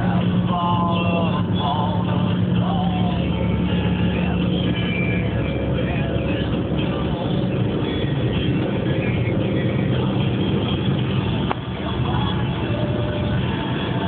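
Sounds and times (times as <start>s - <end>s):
car cabin drone at speed: 0.0s - 14.0s.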